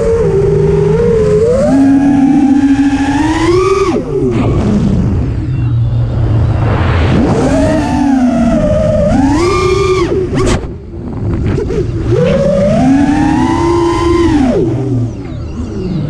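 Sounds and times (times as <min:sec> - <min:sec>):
quadcopter motors whining: 0:00.0 - 0:06.1, 0:07.2 - 0:10.8, 0:11.5 - 0:16.0
low rumble: 0:00.0 - 0:16.0.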